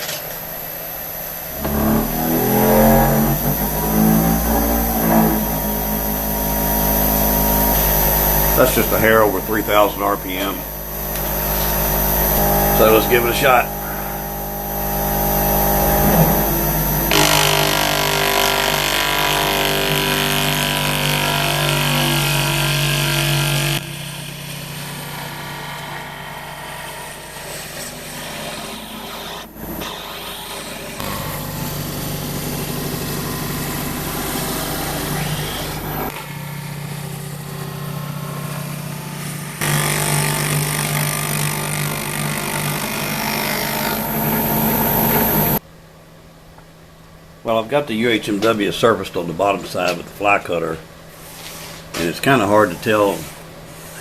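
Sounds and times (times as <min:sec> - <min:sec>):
router spindle whining while cutting: 0:00.0 - 0:45.6.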